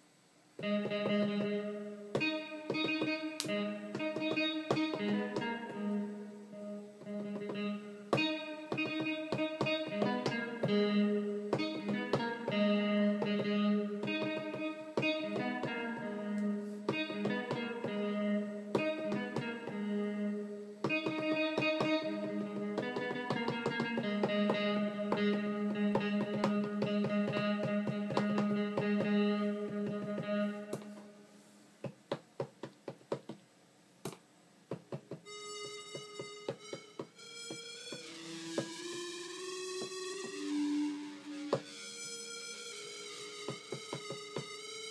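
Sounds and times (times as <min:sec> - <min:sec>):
looping electronic keyboard notes: 0:00.6 - 0:31.2, 0:34.9 - 0:44.9.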